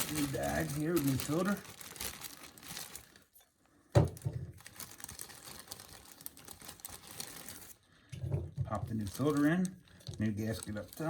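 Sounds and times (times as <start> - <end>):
plastic packaging crinkling: 0.0 - 3.4, 4.0 - 8.1, 8.7 - 11.0.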